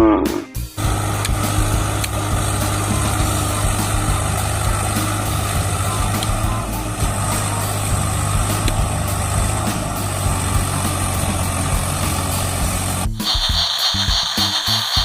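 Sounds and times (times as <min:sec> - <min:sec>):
heavy vehicle engine idling: 0:00.8 - 0:15.0.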